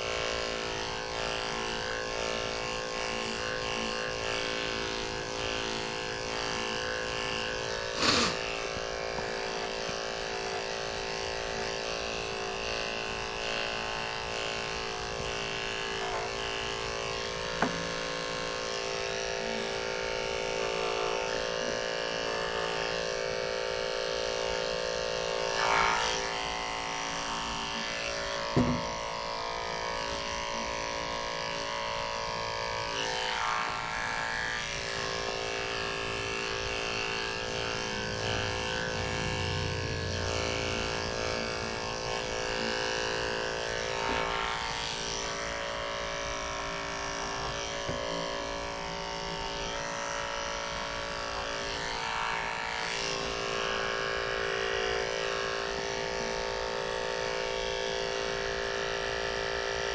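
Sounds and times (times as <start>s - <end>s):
electric clippers humming: 0.0s - 59.9s.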